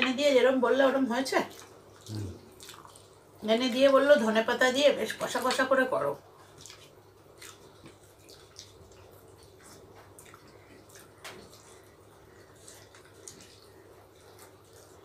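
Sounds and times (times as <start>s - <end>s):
low steady hum: 0.0s - 15.0s
wet eating sounds: 1.2s - 4.3s, 5.0s - 15.0s.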